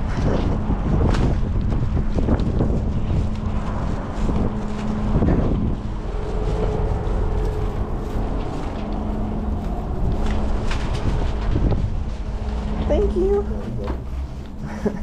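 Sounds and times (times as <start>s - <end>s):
low hum: 0.0s - 15.0s
wind buffeting microphone: 0.0s - 15.0s.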